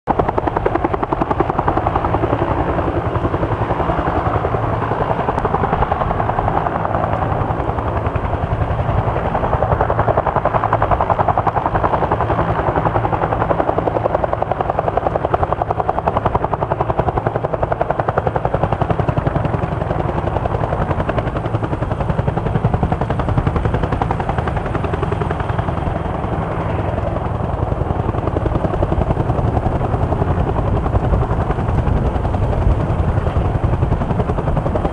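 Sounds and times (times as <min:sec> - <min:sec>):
helicopter rotor beating: 0:00.1 - 0:34.9.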